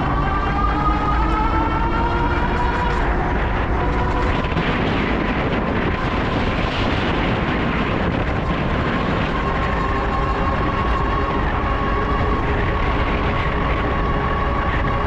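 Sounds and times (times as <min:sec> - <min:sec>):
thin steady whine: 0:00.0 - 0:15.0
wind buffeting microphone: 0:00.0 - 0:15.0.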